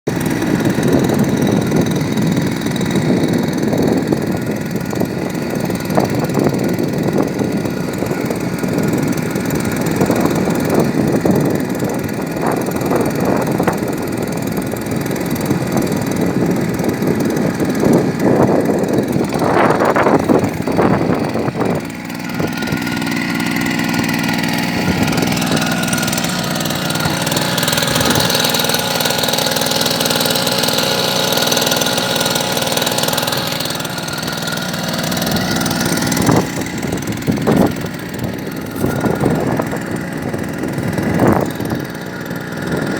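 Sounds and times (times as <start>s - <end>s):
small boat engine running rough: 0.0s - 42.9s.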